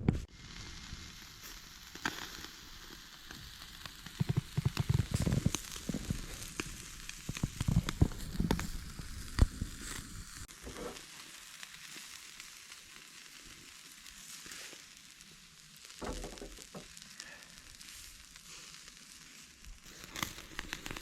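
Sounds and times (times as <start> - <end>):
charcoal fire hissing and crackling: 0.0 - 21.0.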